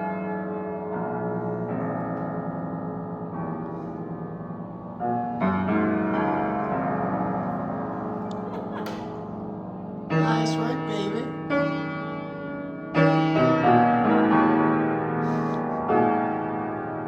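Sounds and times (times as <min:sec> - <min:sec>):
piano chords and notes: 0:00.0 - 0:17.0.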